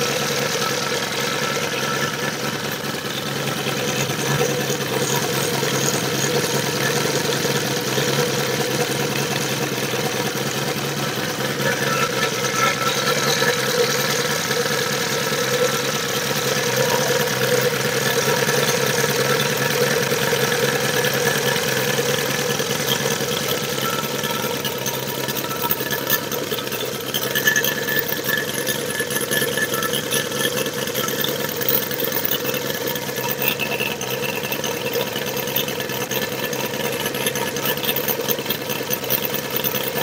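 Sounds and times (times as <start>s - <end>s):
model airplane engine idling: 0.0s - 40.0s.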